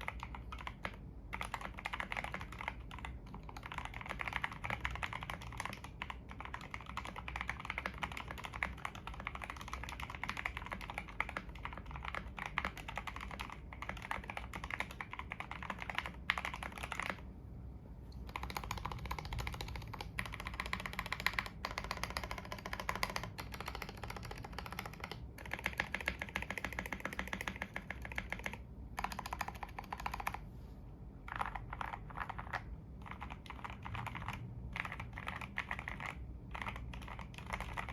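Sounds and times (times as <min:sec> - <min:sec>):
fast typing on mechanical keyboard: 0:00.0 - 0:17.3, 0:18.2 - 0:30.4, 0:31.2 - 0:37.9.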